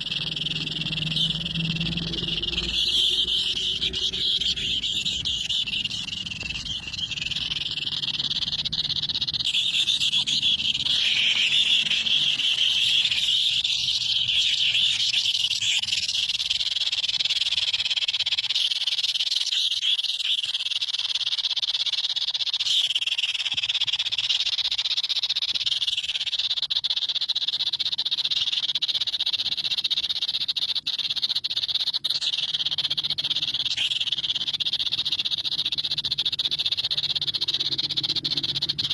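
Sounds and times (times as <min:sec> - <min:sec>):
chorus of high-pitched animal calls: 0:00.0 - 0:38.9.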